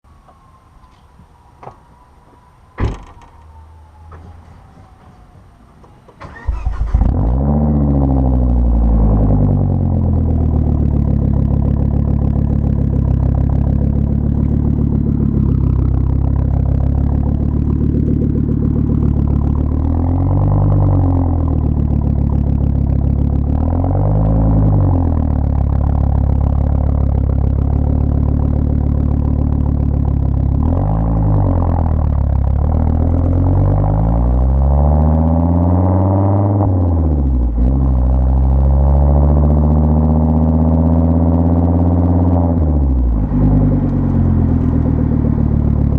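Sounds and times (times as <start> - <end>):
car engine idling and revving: 3.1 - 45.9.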